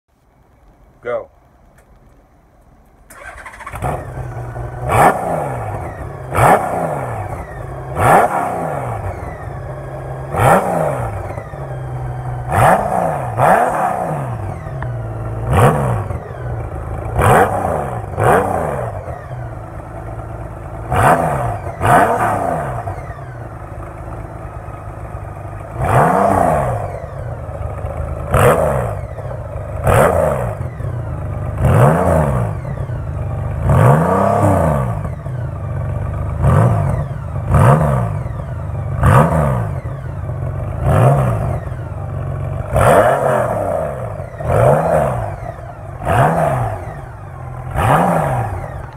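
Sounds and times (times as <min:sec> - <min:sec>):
trike engine revving: 0:03.1 - 0:48.9.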